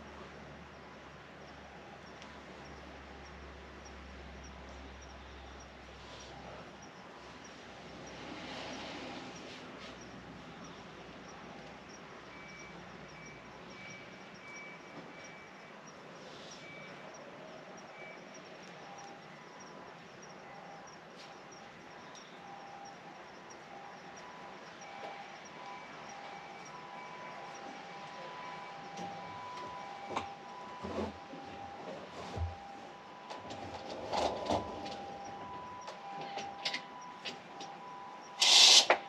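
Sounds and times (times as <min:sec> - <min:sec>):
crickets chirping: 0:00.0 - 0:39.0.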